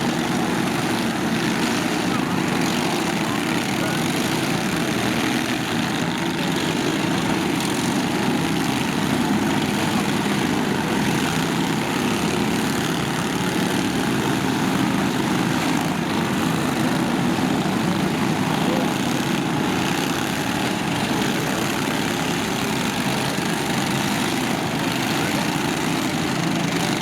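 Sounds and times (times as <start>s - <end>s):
lawn tractor engines running: 0.0s - 27.0s.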